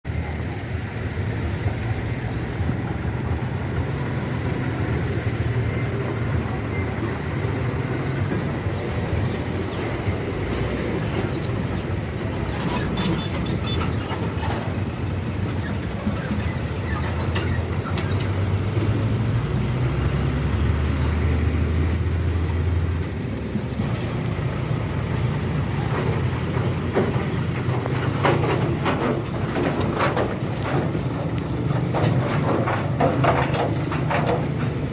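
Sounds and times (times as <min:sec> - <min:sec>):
diesel truck engine running: 0:00.1 - 0:34.9
wheels clattering over railway track: 0:00.1 - 0:34.9.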